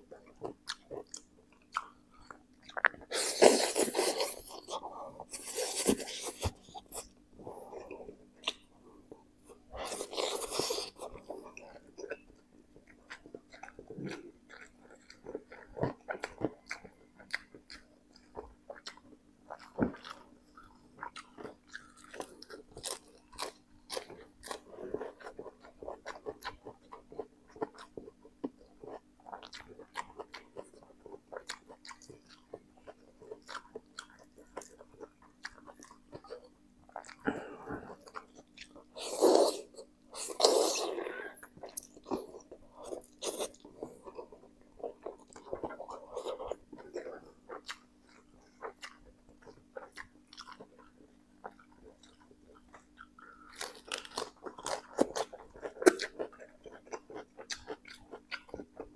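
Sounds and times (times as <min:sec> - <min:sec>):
wet chewing and crunching: 0:00.0 - 0:58.9.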